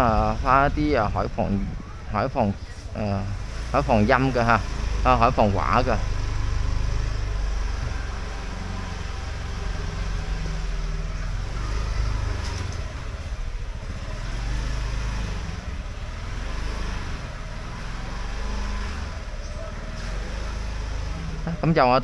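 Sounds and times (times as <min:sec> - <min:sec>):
motorbike engines passing: 0:00.0 - 0:22.0.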